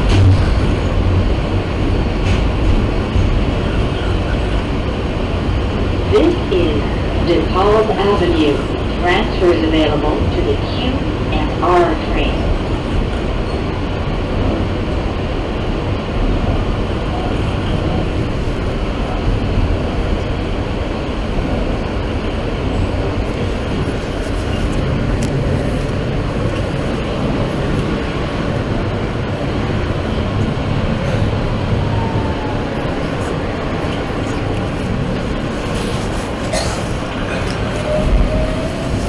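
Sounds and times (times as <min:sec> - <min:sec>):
subway train rumble: 0:00.0 - 0:39.0.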